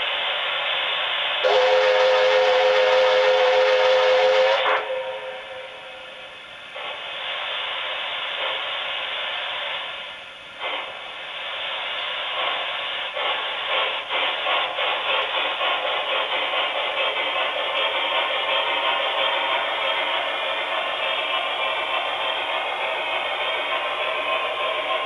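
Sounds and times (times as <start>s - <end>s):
steam hiss: 0.0s - 25.0s
locomotive exhaust chuffs: 0.4s - 25.0s.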